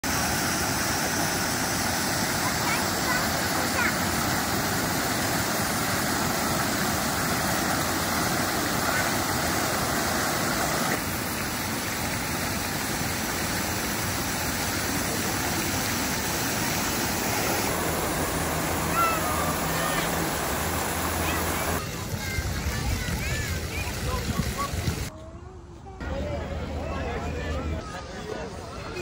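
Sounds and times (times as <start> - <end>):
fountain jets splashing into pool: 0.0 - 25.1.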